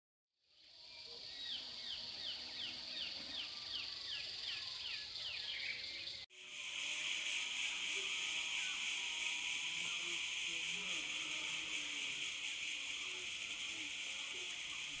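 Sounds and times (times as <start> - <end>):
steady high hiss: 0.6 - 15.0.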